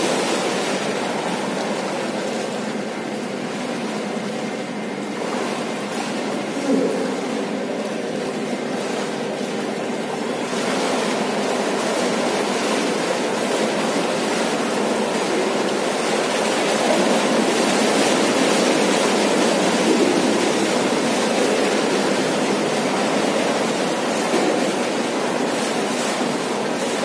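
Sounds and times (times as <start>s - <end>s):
rushing pool water: 0.0s - 27.0s.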